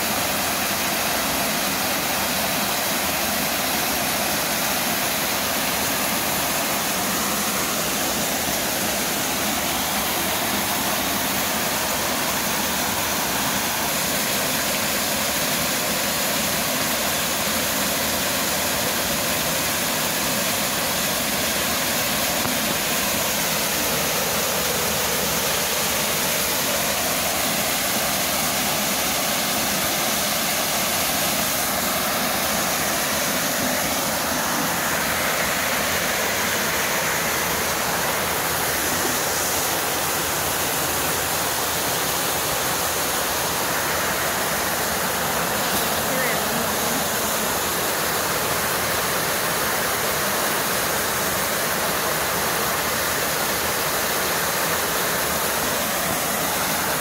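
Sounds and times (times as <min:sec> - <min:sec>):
waterfall pouring into pool: 0:00.0 - 0:57.0.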